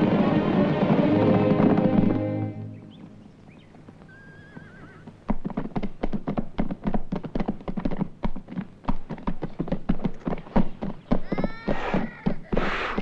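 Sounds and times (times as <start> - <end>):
horse hooves on dry dirt: 0.0 - 13.0.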